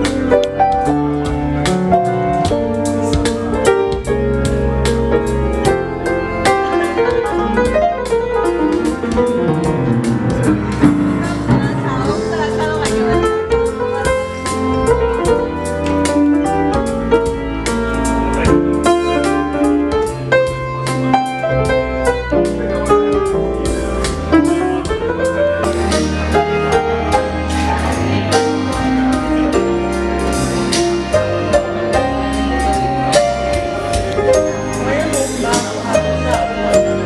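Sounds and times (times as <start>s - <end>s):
bass and drums: 0.0s - 37.0s
swing jazz piano: 0.0s - 37.0s.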